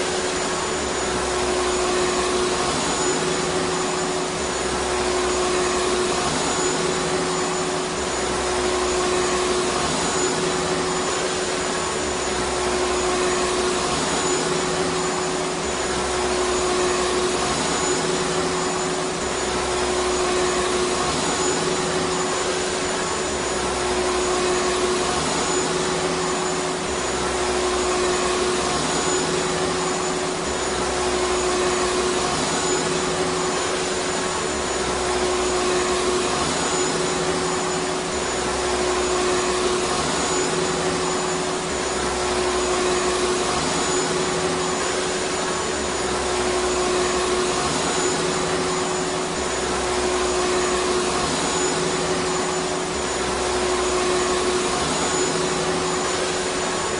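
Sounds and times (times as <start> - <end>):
vacuum cleaner motor running: 0.0 - 56.9.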